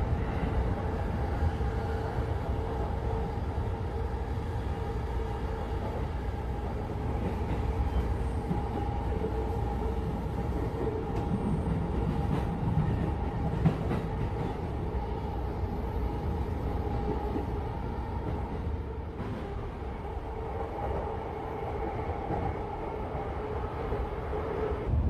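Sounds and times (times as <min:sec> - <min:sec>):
train rumbling inside passenger car: 0:00.0 - 0:25.0.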